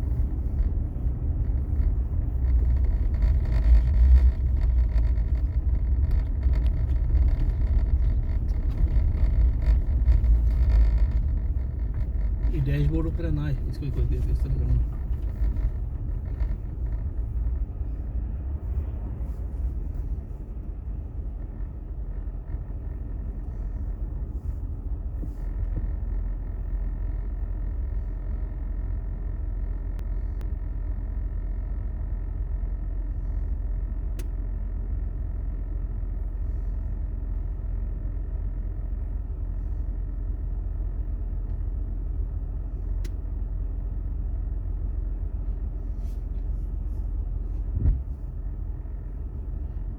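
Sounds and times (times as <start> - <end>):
car driving rumble: 0.0 - 49.9
faint steady hum: 0.0 - 49.9.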